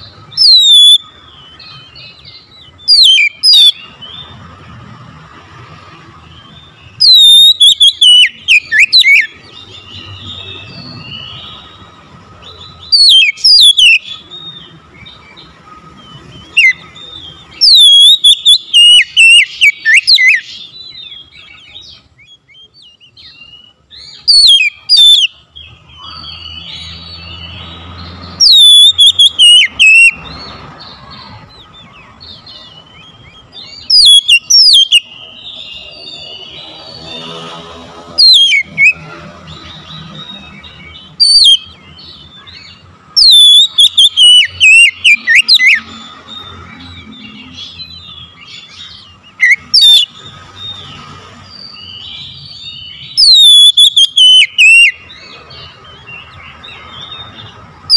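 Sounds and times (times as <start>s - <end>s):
bird singing whistled phrases: 0.0s - 4.3s, 6.3s - 15.4s, 16.0s - 30.6s, 31.2s - 37.2s, 38.2s - 50.8s, 51.5s - 55.3s.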